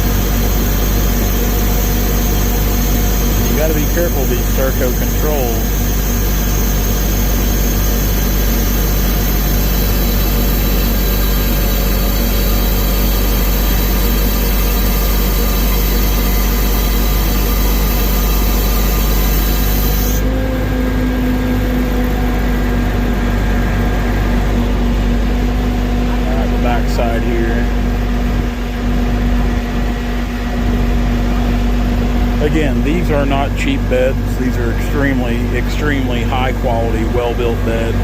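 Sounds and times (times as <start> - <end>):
low hum: 0.0 - 38.0
truck diesel engine running: 0.0 - 38.0.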